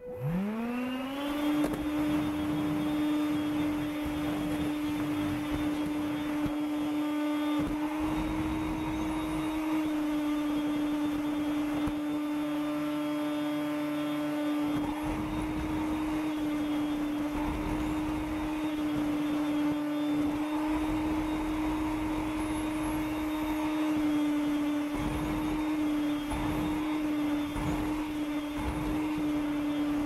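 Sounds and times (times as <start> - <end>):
cordless vacuum motor whine: 0.0 - 30.0.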